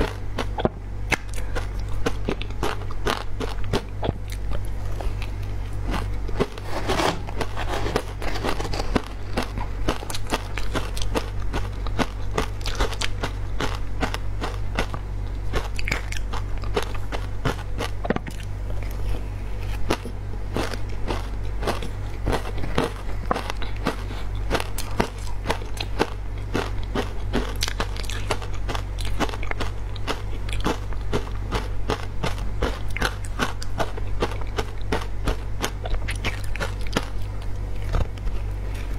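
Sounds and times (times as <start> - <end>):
chewing crunchy ice: 0.0 - 38.9
steady low hum: 0.0 - 38.9.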